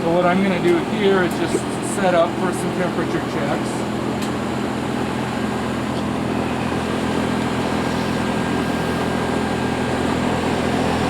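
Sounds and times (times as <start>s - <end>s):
heat pump fan noise: 0.0s - 11.0s
low machine hum: 0.0s - 11.0s.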